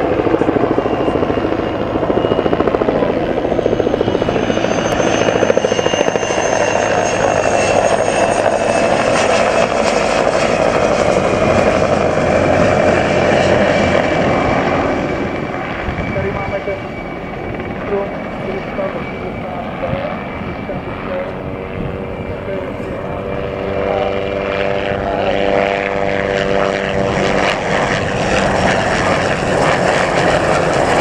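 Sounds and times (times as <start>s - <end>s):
helicopter blades beating: 0.0s - 31.0s
high turbine whine: 0.0s - 31.0s.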